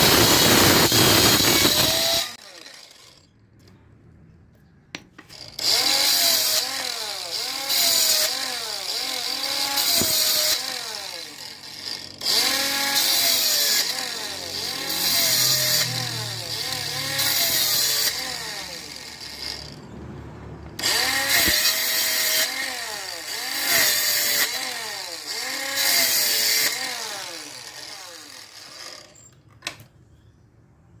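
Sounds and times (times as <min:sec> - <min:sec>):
circular saw motor cutting wood: 0:00.0 - 0:03.4, 0:05.2 - 0:29.5
rasping cutting noise: 0:00.0 - 0:03.8, 0:05.1 - 0:29.3.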